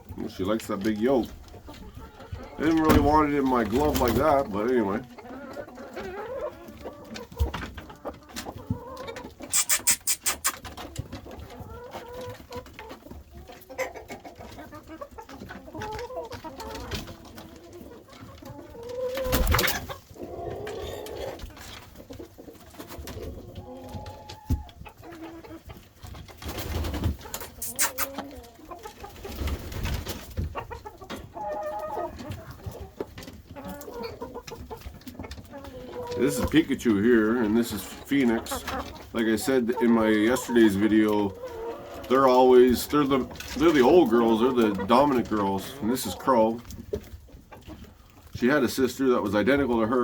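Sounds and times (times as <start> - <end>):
hens clucking: 0.0 - 50.0.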